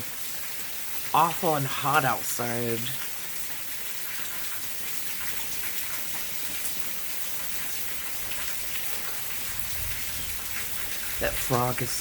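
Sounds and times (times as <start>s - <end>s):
steady rain hiss: 0.0s - 12.0s
raindrop ticks: 1.0s - 12.0s.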